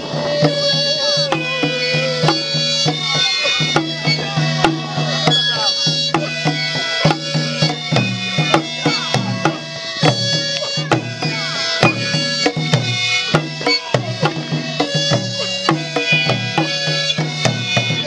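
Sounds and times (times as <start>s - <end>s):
end-blown pipes playing held notes: 0.0s - 18.0s
steady drum beats: 0.0s - 18.0s.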